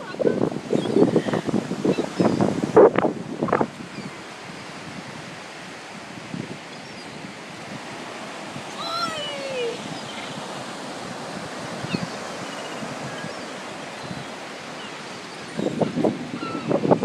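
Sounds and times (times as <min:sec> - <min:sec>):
ocean surf: 0:00.0 - 0:17.0.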